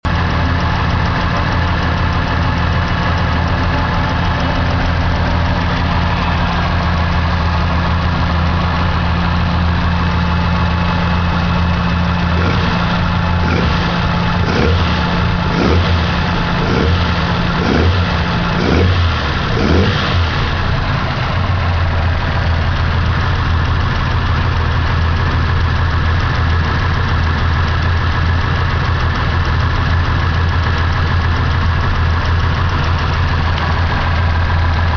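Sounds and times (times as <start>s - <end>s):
car engine idling: 0.0s - 34.9s
engine throttle blips: 0.0s - 34.9s.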